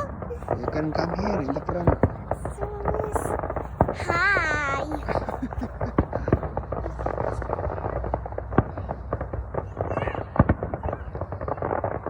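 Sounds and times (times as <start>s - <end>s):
crowd chatter: 0.0s - 11.9s
fireworks popping and banging: 0.0s - 12.0s.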